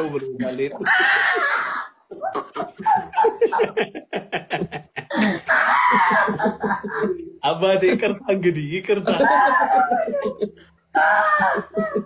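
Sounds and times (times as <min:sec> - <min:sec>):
men laughing: 0:00.4 - 0:12.0.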